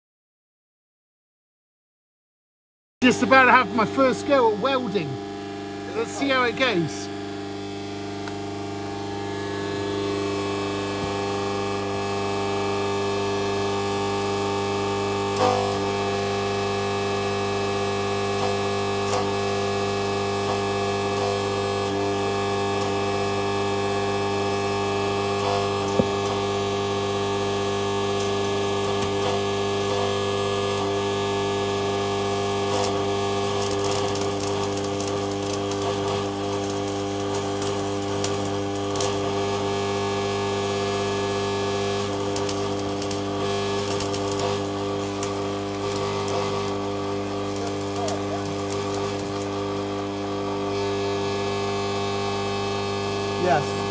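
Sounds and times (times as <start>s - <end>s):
arc welder humming: 3.0s - 53.9s
welding arc crackling: 3.0s - 53.9s.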